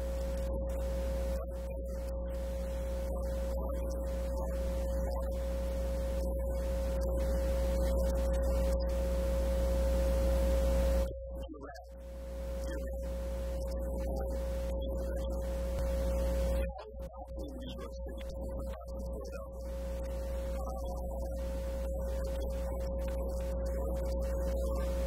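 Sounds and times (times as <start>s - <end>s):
constant mid-pitched tone: 0.0s - 25.0s
low mains buzz: 0.0s - 25.0s.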